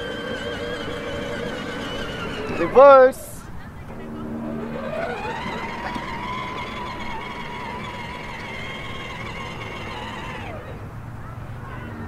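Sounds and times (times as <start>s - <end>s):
toy car electric motor whining: 0.0s - 10.9s.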